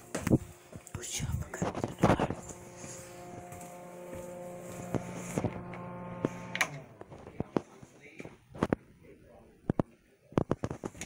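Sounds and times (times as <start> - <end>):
steady electrical hum: 0.0 - 9.4.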